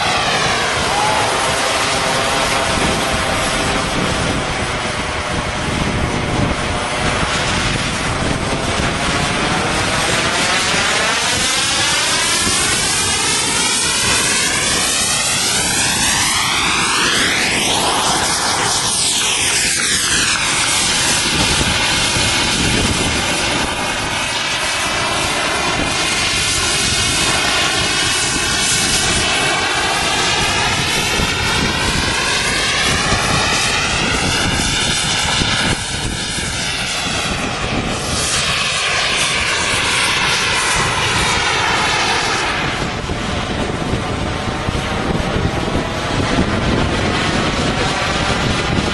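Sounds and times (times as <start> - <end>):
model jet engine running: 0.0 - 48.9.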